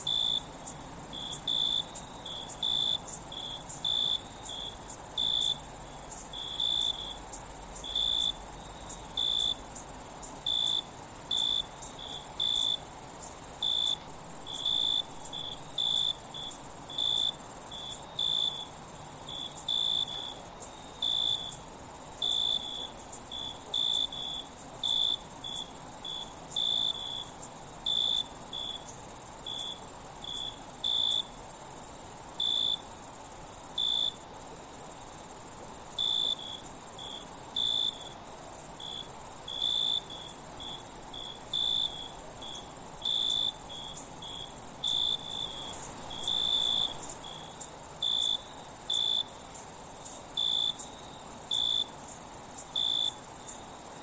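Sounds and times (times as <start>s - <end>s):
cricket chirping: 0.0s - 54.0s
insect chorus drone: 0.0s - 54.0s.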